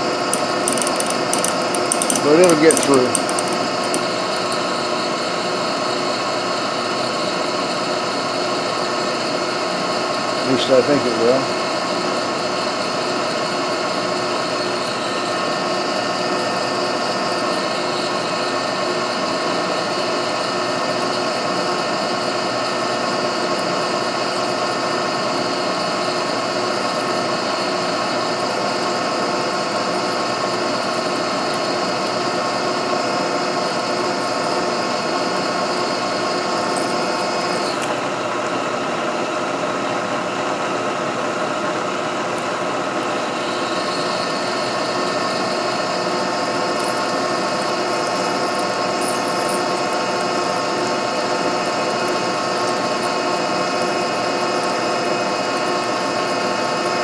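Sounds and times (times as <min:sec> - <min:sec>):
drill boring into metal: 0:00.0 - 0:38.2, 0:40.6 - 0:57.0
milling machine spindle whining: 0:00.0 - 0:57.0.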